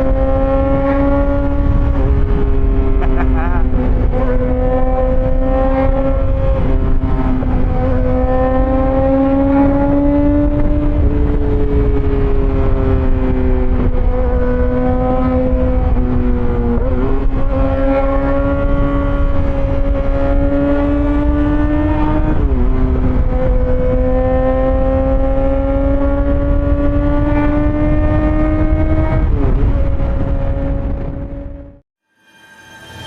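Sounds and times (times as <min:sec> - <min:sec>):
motorcycle engine: 0:00.0 - 0:33.0
wind rumble: 0:00.0 - 0:33.0.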